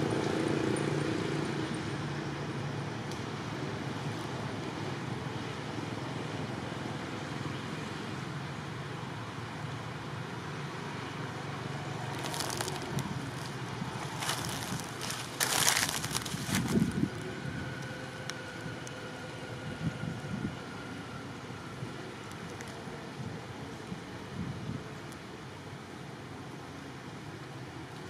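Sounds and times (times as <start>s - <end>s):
distant engine drone: 0.0s - 24.1s
outdoor background noise: 0.0s - 28.0s.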